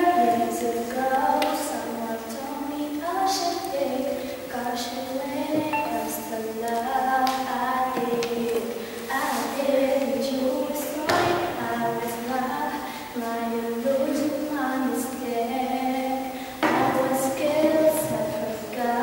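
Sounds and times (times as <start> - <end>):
girl singing unaccompanied: 0.0 - 19.0.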